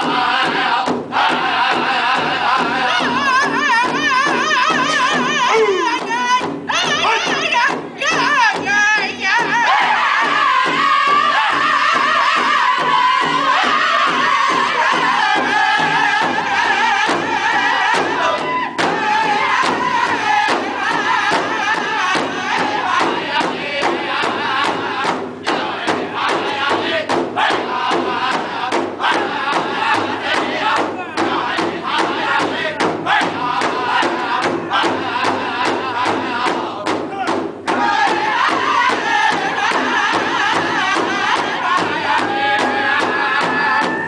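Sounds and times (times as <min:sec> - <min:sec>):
large drum steady beat: 0:00.0 - 0:44.0
men singing in unison: 0:00.0 - 0:44.0.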